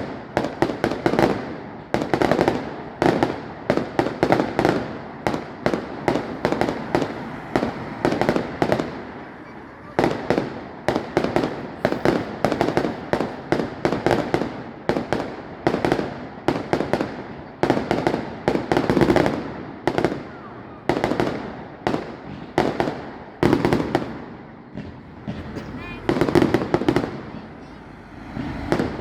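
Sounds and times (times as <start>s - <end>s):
fireworks bangs echoing: 0.0s - 29.0s.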